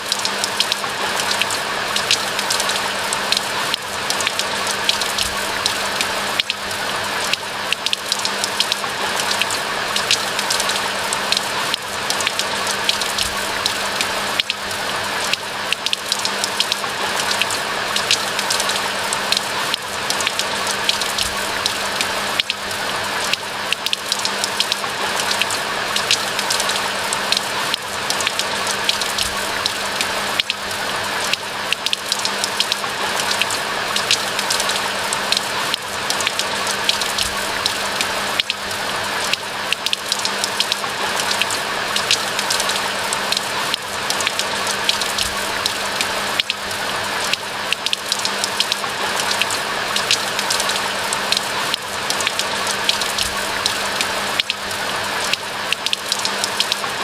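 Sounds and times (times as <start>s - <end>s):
rain falling: 0.0s - 57.0s
raindrop ticks: 0.0s - 57.0s.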